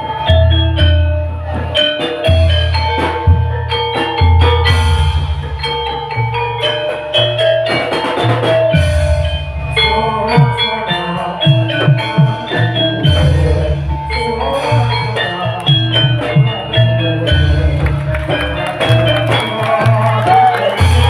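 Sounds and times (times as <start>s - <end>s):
drums: 0.0s - 21.0s
struck metal bars melody: 0.0s - 21.0s.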